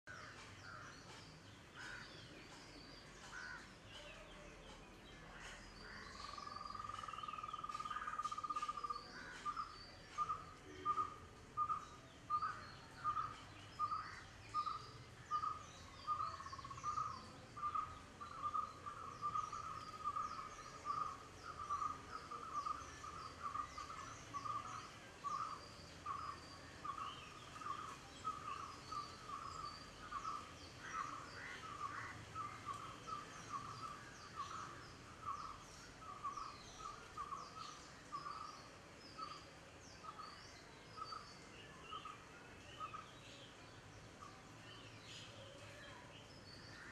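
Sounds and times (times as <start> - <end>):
faint high bird chirps: 5.4 - 43.6, 44.2 - 46.9.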